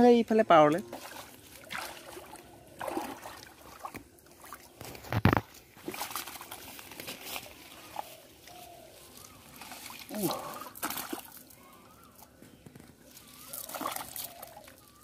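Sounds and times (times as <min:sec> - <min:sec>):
small splashes: 0:00.9 - 0:08.6, 0:09.2 - 0:12.3, 0:13.0 - 0:15.0
water sloshing and dripping: 0:00.9 - 0:12.3, 0:13.1 - 0:15.0.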